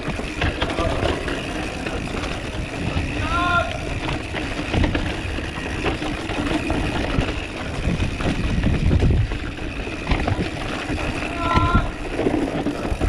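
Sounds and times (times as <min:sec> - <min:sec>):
mountain bike rattling and knocking: 0:00.0 - 0:13.0
wind buffeting microphone: 0:00.0 - 0:13.0.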